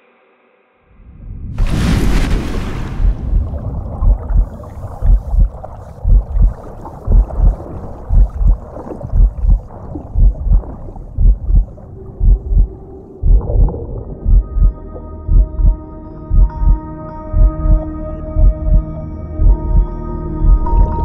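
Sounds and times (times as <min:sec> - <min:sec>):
heartbeat thumps: 0:03.0 - 0:17.8, 0:18.4 - 0:21.0.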